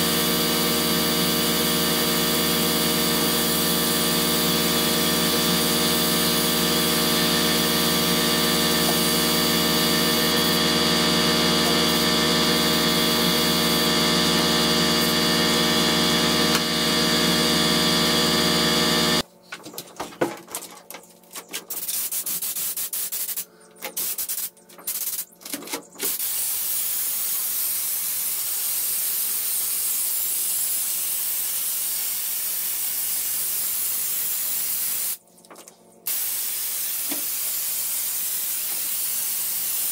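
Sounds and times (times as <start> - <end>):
spray gun hissing: 0.0 - 17.6, 21.9 - 23.4, 26.1 - 35.2, 36.1 - 39.9
air compressor running: 0.0 - 19.2, 26.1 - 35.2, 36.1 - 39.9.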